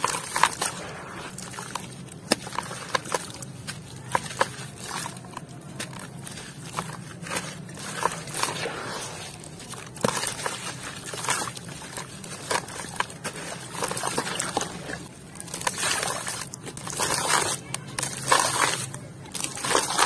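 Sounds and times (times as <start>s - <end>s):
water sloshing: 0.0s - 20.0s
wet grit crackling: 0.0s - 20.0s.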